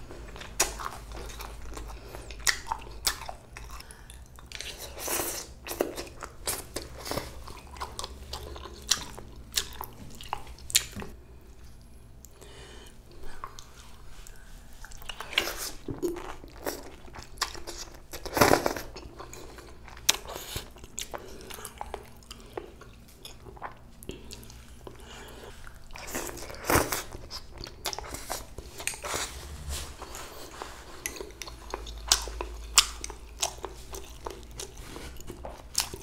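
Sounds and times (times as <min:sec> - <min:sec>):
crunchy chewing: 0:00.2 - 0:12.4, 0:13.1 - 0:36.0.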